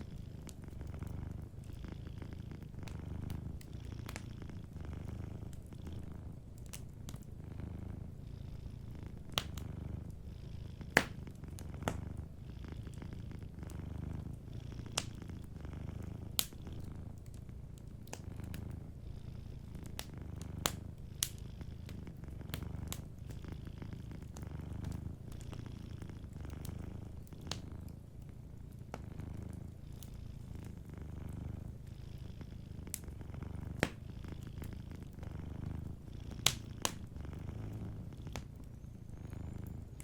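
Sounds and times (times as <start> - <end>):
cat purring: 0.0 - 40.0
wood fire crackling: 0.0 - 40.0.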